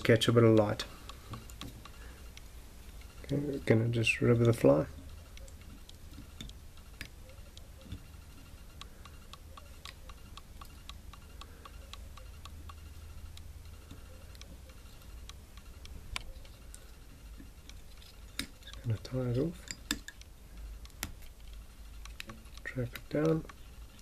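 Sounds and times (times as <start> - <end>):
faint regular ticking: 0.0 - 24.0
low steady hum: 0.0 - 24.0.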